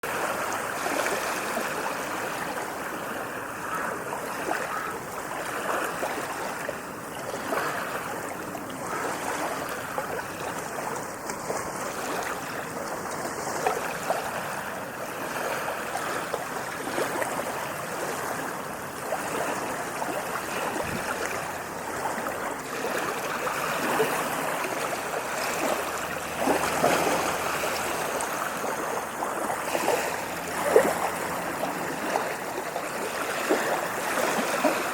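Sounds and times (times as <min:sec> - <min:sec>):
small waves washing over sand: 0:00.0 - 0:34.9.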